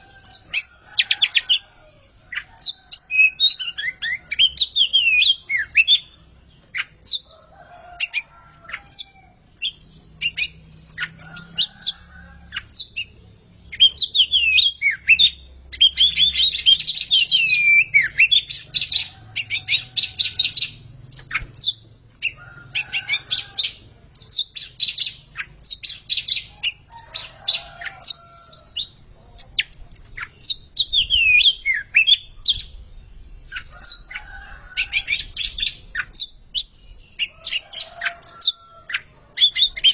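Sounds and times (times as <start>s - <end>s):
birds singing whistled phrases: 0.0s - 39.9s.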